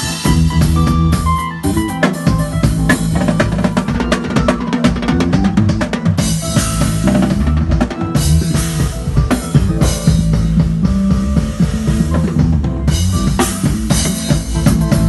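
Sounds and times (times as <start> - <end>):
electric bass guitar: 0.0 - 15.0.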